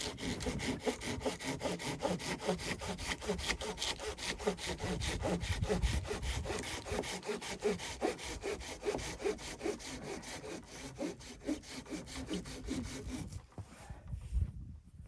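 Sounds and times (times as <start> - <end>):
hand saw cutting wood: 0.0 - 13.5.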